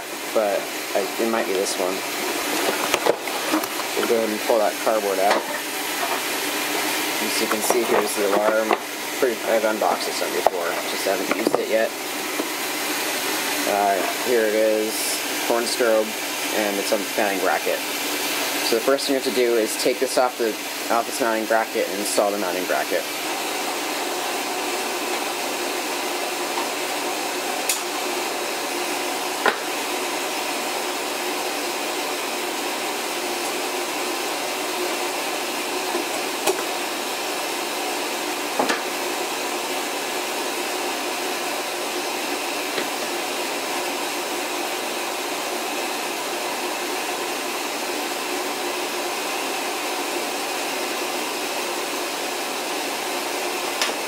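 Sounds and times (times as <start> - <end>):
water softener rushing hiss: 0.0 - 54.0.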